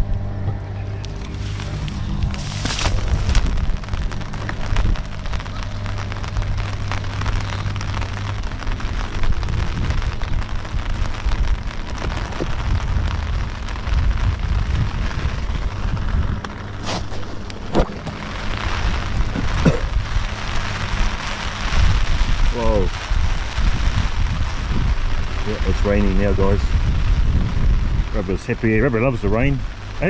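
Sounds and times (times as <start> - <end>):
heavy rain pattering: 0.0 - 30.0
low steady hum: 0.0 - 30.0
wind buffeting microphone: 0.0 - 30.0.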